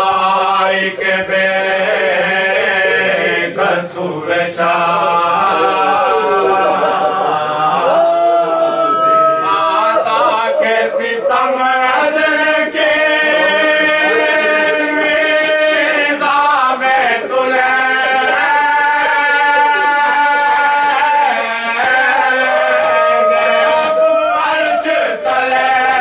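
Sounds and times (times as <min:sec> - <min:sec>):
men chanting an elegy: 0:00.0 - 0:26.0.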